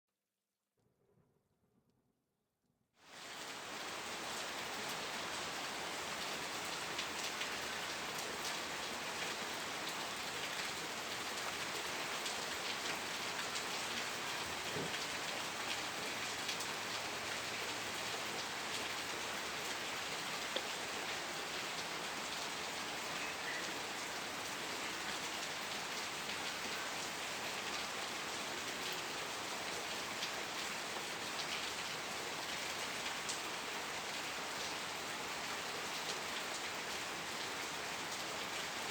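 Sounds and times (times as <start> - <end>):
steady rain falling: 3.0 - 38.9.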